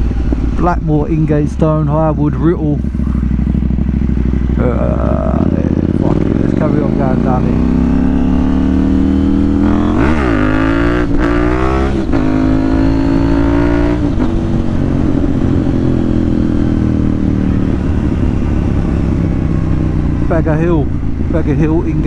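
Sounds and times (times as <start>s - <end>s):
motorcycle engine and exhaust: 0.0s - 22.0s.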